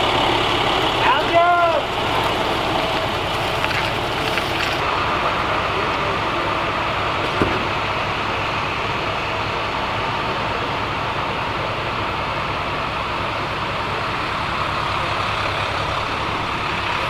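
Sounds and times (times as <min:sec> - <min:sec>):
vehicle engines idling: 0:00.0 - 0:17.0.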